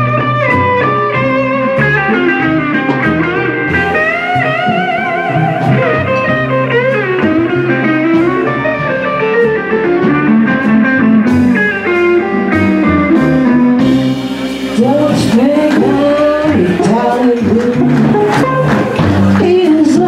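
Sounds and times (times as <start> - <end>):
band backing: 0.0 - 20.0
electric guitar blues solo: 0.0 - 20.0.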